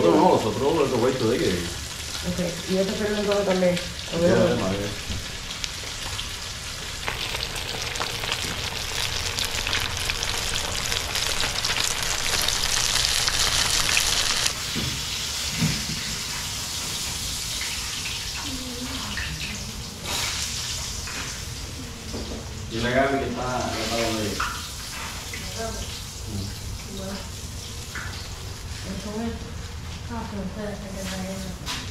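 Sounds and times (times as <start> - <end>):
fish deep-frying in oil: 0.0 - 31.9.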